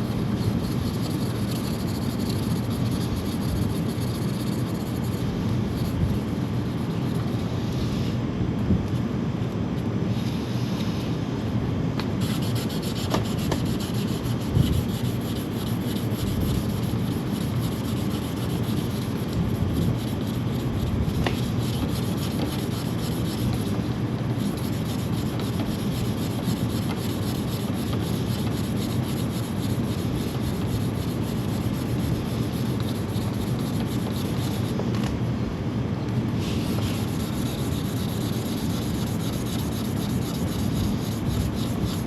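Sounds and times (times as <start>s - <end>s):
sanding paintwork: 0.0s - 7.5s, 12.2s - 34.8s, 36.4s - 42.0s.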